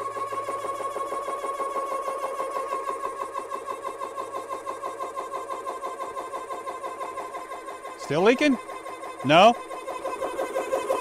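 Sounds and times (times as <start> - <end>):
air compressor pulsing whine: 0.0 - 11.0.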